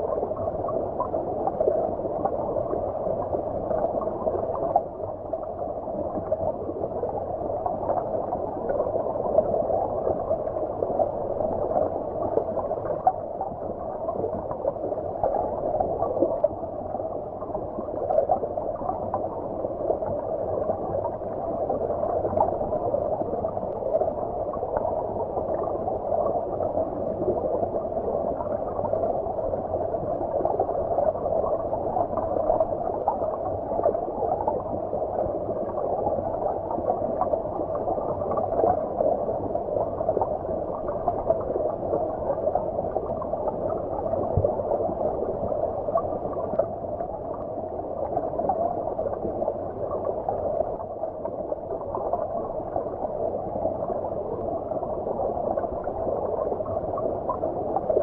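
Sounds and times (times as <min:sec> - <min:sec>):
muffled underwater stream rush: 0:00.0 - 0:58.0.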